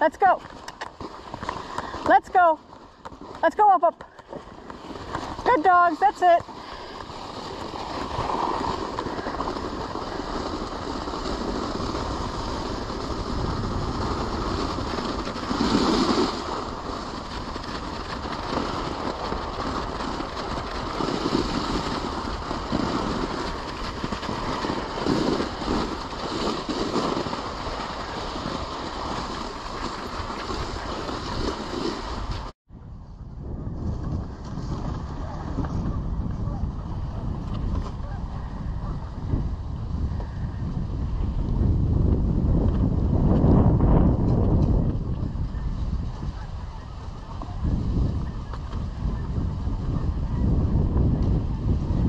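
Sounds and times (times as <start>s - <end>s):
sled runners sliding over snow: 0.0s - 52.0s
wind noise on microphone: 0.0s - 52.0s.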